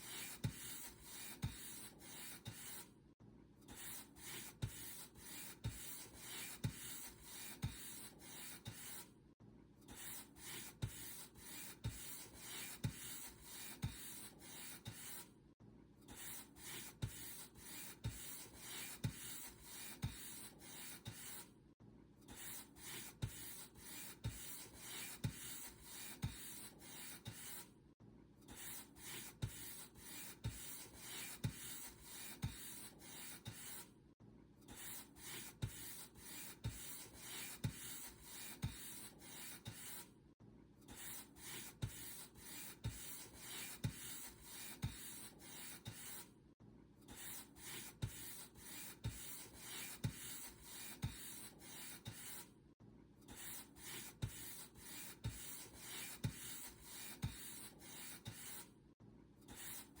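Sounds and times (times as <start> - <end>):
paint brush scratching on surface: 0.0 - 2.9, 3.7 - 9.1, 9.9 - 15.3, 16.1 - 21.5, 22.3 - 27.7, 28.5 - 33.9, 34.7 - 40.1, 40.9 - 46.3, 47.1 - 52.5, 53.3 - 58.7, 59.5 - 60.0.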